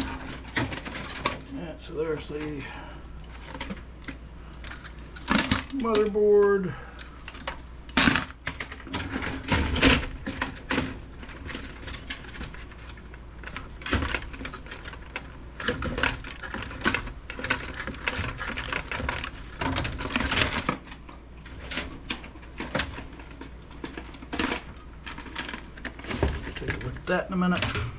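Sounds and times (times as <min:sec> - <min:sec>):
computer parts clattering: 0:00.0 - 0:27.9.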